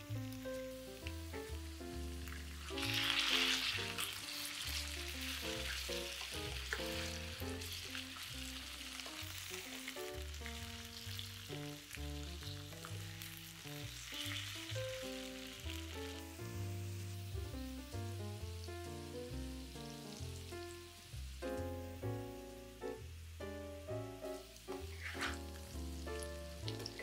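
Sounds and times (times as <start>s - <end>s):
background music: 0.0s - 27.0s
food sizzling in a frying pan: 0.0s - 27.0s.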